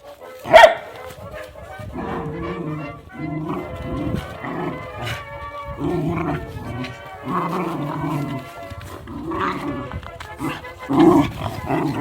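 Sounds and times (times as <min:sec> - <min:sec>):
background music: 0:00.0 - 0:12.0
small dogs growling: 0:00.4 - 0:12.0.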